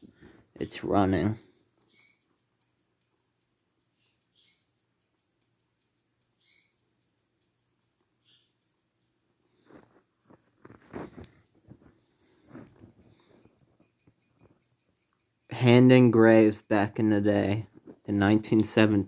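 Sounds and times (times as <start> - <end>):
pocket watch ticking: 0.0 - 19.0.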